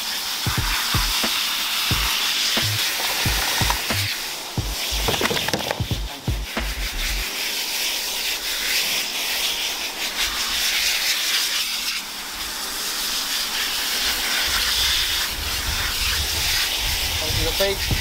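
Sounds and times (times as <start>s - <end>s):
water spraying from hose nozzle: 0.0s - 18.0s.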